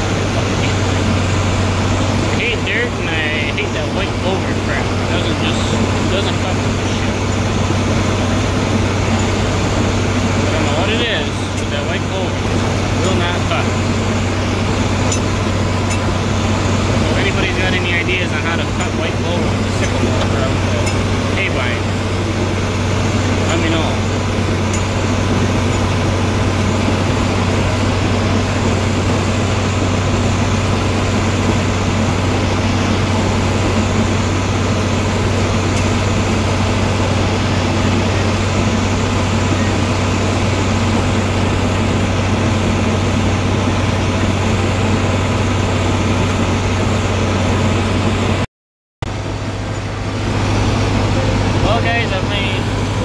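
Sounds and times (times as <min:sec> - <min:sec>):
tractor engine droning: 0:00.0 - 0:48.4, 0:49.1 - 0:53.0.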